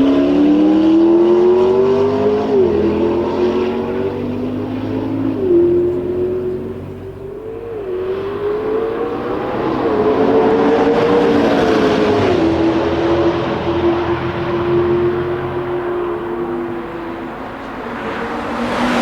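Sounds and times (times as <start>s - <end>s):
sports car engine revving: 0.0s - 19.0s.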